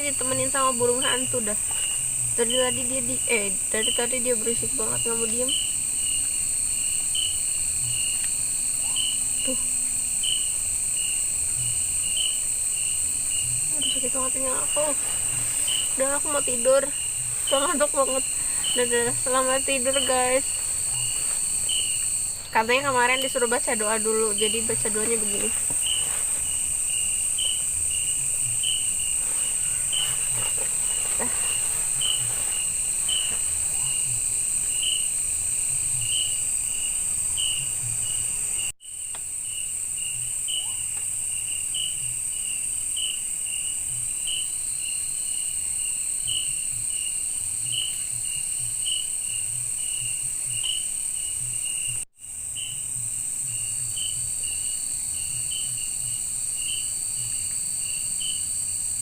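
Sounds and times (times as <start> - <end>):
crickets chirping: 0.0 - 59.0
high-pitched insect trill: 0.0 - 59.0.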